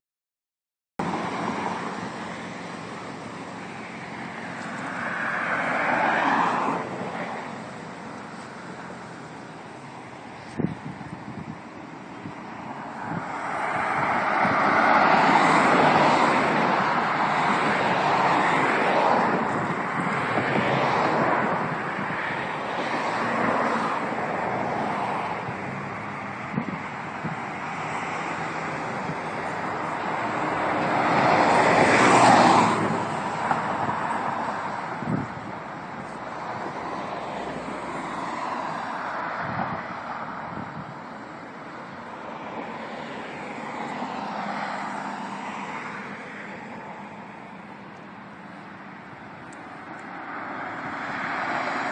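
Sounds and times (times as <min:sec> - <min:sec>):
cars passing: 0:01.0 - 0:51.9.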